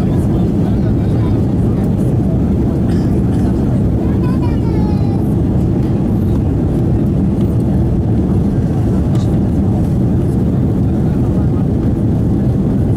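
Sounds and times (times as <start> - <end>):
jet engines droning in cabin: 0.0 - 12.9.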